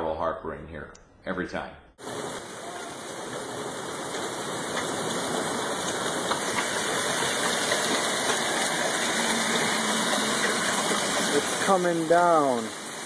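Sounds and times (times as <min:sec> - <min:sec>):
faint hail ticks: 0:02.0 - 0:13.0
rain and hail: 0:02.0 - 0:13.0.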